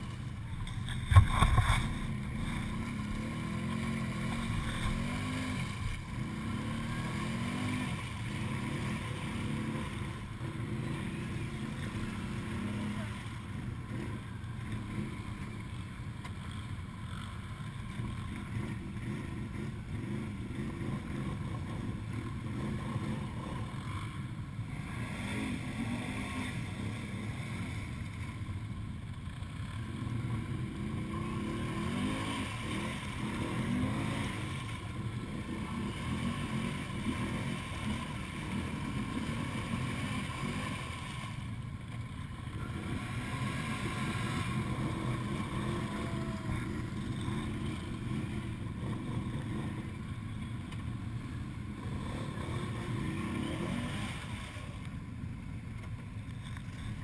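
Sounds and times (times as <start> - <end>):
quad bike engines revving: 0.0 - 57.0.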